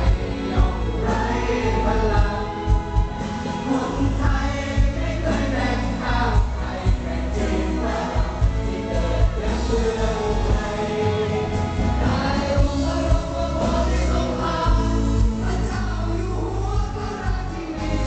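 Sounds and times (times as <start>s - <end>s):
man and women singing: 0.0s - 18.0s
pop backing music with bass and drums: 0.0s - 18.0s.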